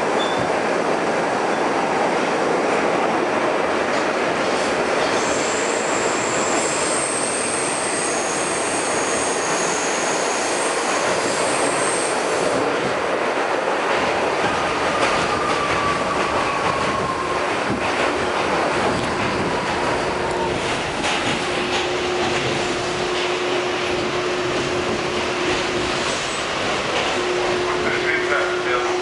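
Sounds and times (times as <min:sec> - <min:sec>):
falling tone of slowing train: 0:00.0 - 0:29.0
train wheels rumbling on rail: 0:00.0 - 0:29.0.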